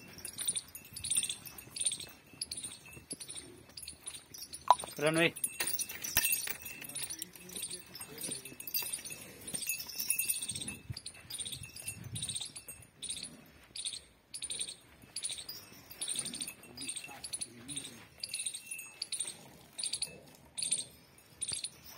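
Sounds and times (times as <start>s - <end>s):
cow bells jingling: 0.0s - 21.9s.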